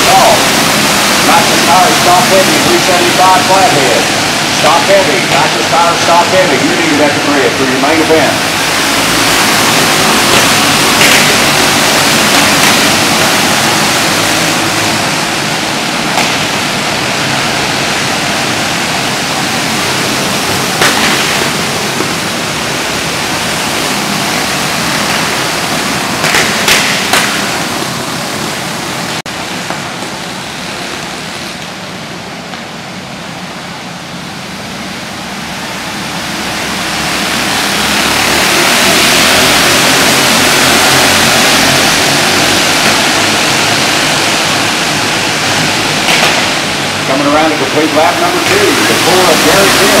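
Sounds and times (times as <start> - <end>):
racing kart engines: 0.0 - 50.0.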